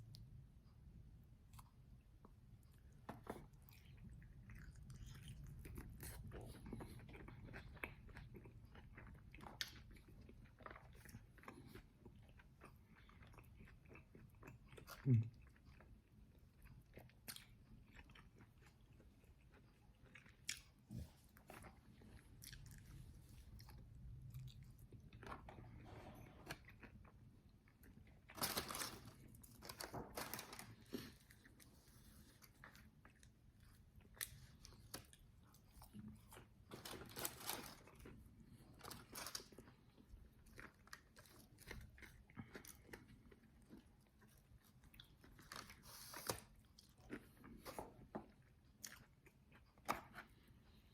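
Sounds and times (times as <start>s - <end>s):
crunchy chewing of fried chicken: 0.0s - 50.9s.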